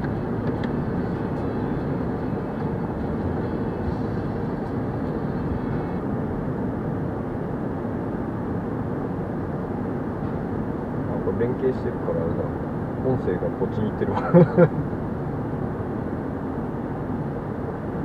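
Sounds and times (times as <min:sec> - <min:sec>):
muffled car wash rumble: 0:00.0 - 0:18.0.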